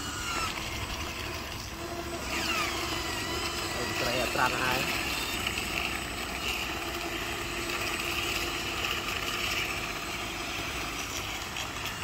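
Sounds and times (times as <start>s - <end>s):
small motors whining: 0.0s - 12.0s.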